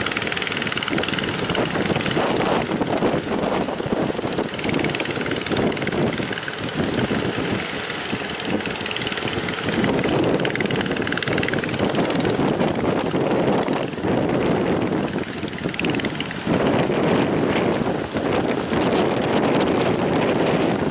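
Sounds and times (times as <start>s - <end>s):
outboard engine running: 0.0s - 20.9s
strong wind: 0.0s - 20.9s
waves: 0.0s - 20.9s.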